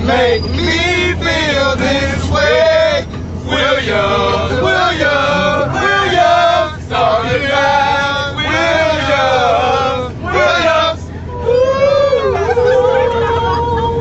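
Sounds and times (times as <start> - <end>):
boys singing off-key: 0.0 - 12.6
low hum: 0.0 - 14.0.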